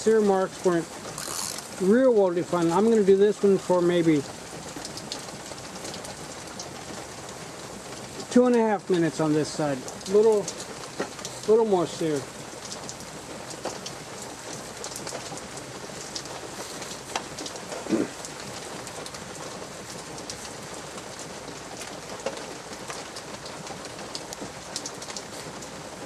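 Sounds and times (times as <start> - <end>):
light rain pattering: 0.0 - 26.0
small drips and ticks: 0.0 - 26.0.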